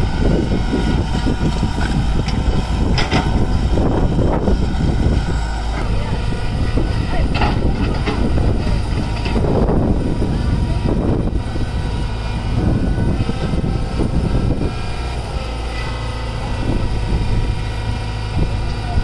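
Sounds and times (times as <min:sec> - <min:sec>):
excavator engine and hydraulics: 0:00.0 - 0:19.0
tractor idling: 0:00.0 - 0:19.0.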